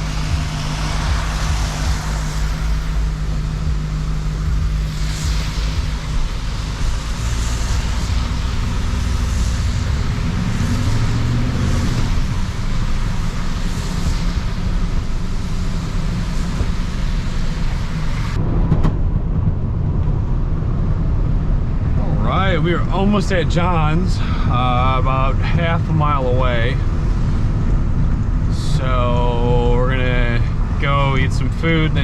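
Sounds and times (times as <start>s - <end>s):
road noise: 0.0s - 32.0s
vehicle engine hum: 0.0s - 32.0s.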